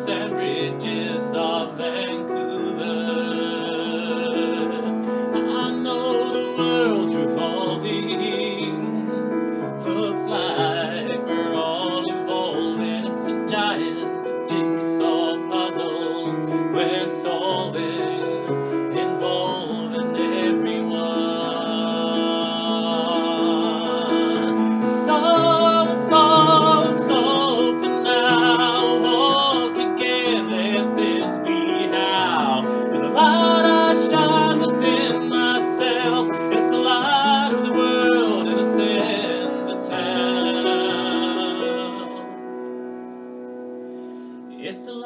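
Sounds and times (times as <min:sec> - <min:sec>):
man singing a folk ballad: 0:00.0 - 0:42.4, 0:44.5 - 0:45.0
upright piano: 0:00.0 - 0:45.0.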